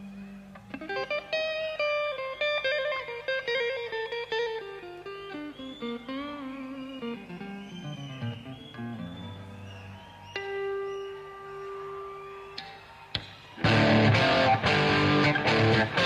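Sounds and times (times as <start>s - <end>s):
electric guitar solo: 0.0s - 16.0s.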